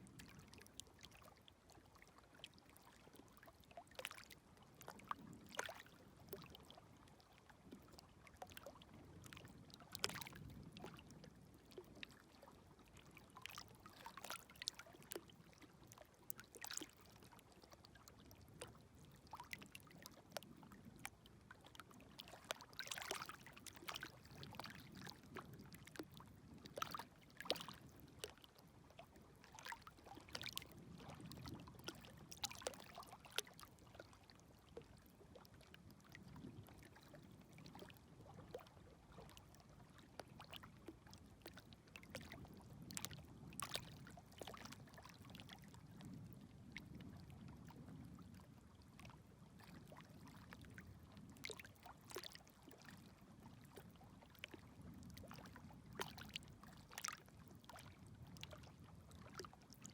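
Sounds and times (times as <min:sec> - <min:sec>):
gentle waves lapping at shore: 0:00.0 - 0:59.9
light water splashes: 0:00.0 - 0:59.9.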